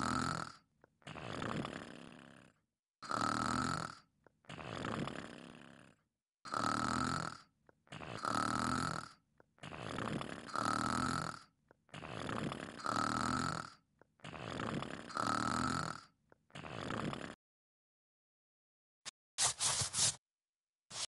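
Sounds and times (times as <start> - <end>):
person snoring: 0.0 - 17.4.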